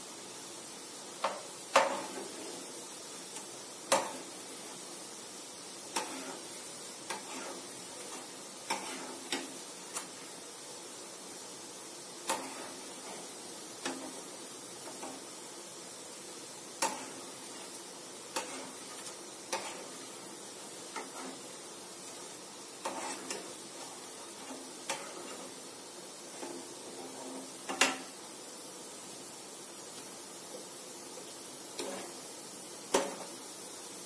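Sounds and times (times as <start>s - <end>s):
deep-frying sizzle in oil: 0.0s - 34.0s.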